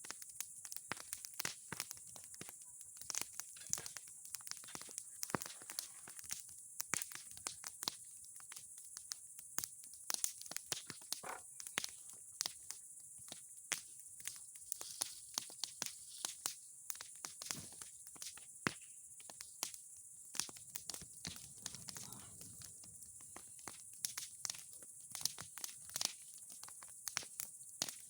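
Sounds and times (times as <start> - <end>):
bonfire crackling and popping: 0.0 - 28.0.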